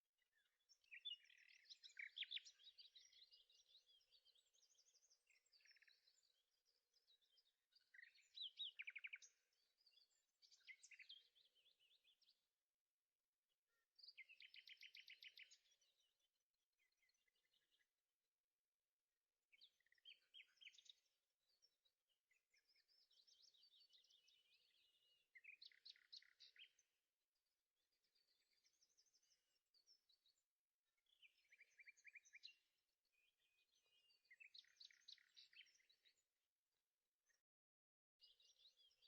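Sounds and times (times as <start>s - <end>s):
faint birdsong: 0.0s - 39.0s.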